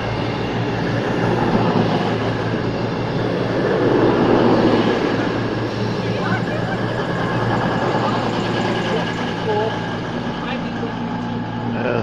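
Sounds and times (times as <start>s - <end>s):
diesel engine hum: 0.0s - 12.0s
train rolling on rails: 0.0s - 12.0s.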